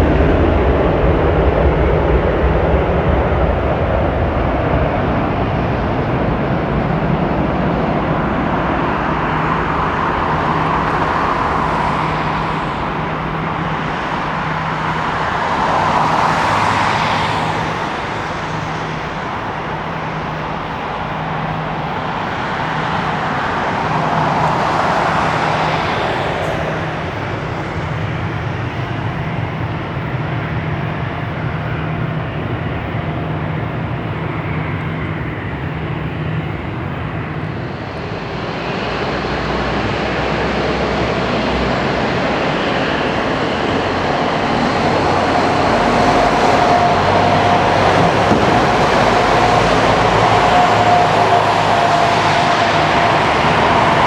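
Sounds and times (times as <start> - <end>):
jet engine roar: 0.0 - 54.0.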